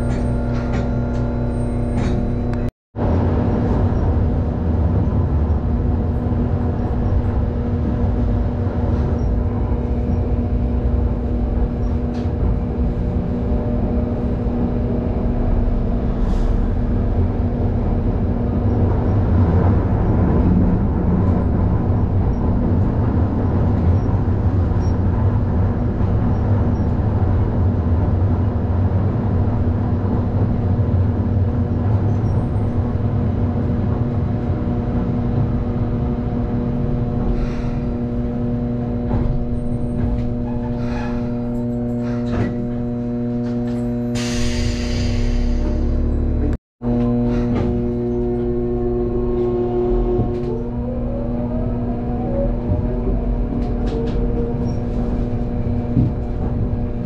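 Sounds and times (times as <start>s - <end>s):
tram wheels rumbling on rail: 0.0s - 57.0s.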